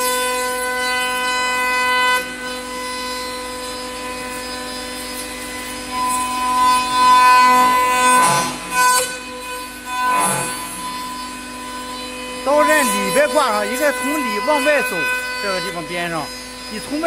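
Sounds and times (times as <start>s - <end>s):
cutter rasping through wood: 0.0s - 17.0s
router spindle whining: 0.0s - 17.0s.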